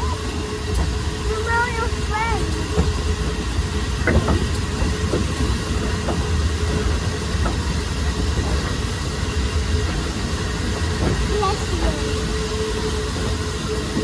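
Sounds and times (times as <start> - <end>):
train rumble from on board: 0.0 - 14.0
wheels knocking on track: 0.7 - 12.3.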